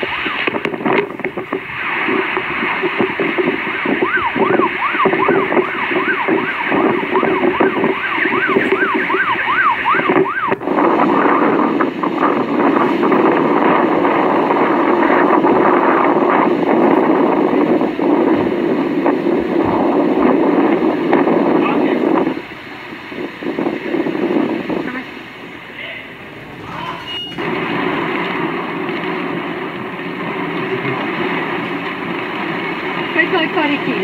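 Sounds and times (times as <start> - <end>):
emergency siren wailing: 0.0 - 34.0
rushing storm noise: 0.0 - 34.0.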